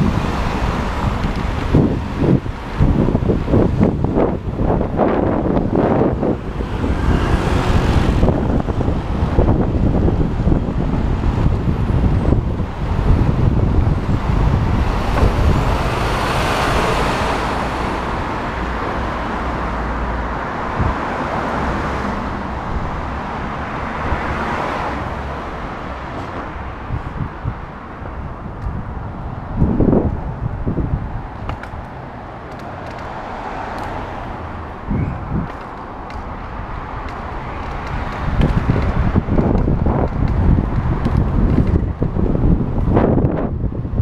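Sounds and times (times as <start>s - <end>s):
road traffic passing: 0.0s - 44.0s
truck passing: 0.0s - 44.0s
wind rumbling on microphone: 0.0s - 44.0s.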